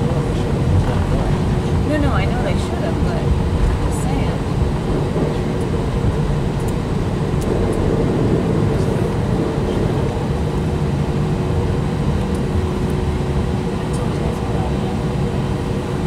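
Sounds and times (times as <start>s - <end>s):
constant faint hum: 0.0s - 16.0s
jet engines rumbling in cabin: 0.0s - 16.0s.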